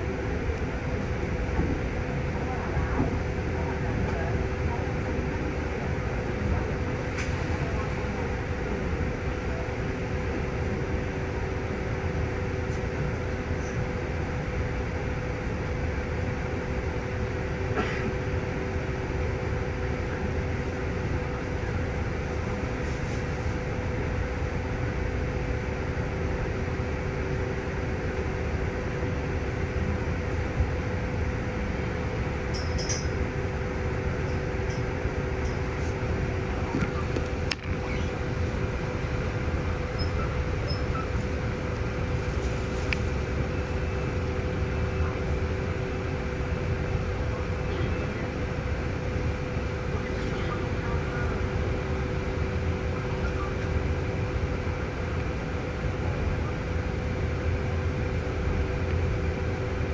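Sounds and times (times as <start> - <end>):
idling bus rumble: 0.0 - 59.9.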